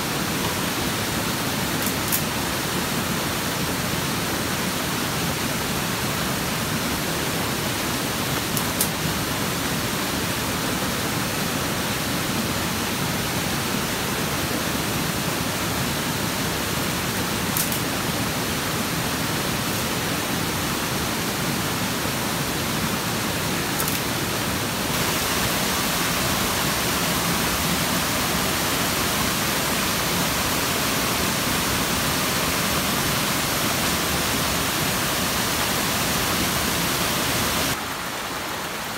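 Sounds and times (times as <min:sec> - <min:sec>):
small waterfalls: 0:00.0 - 0:38.9
stream rushing over rocks: 0:00.0 - 0:38.9.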